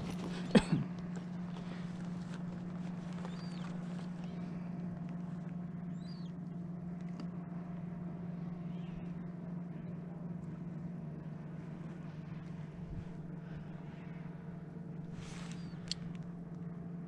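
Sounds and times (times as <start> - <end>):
small boat motor droning: 0.0 - 17.0.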